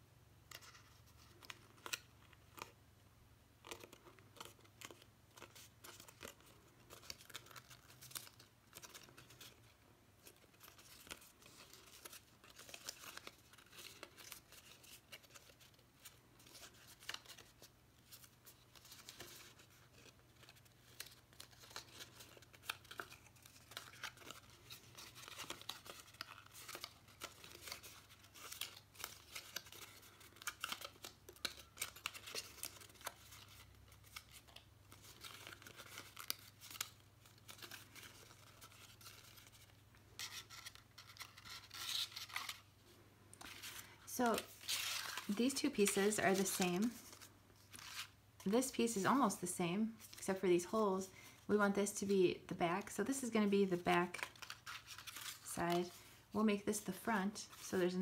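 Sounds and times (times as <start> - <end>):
cardstock crackling as folded: 0.5 - 2.8, 3.6 - 49.3, 52.8 - 58.0.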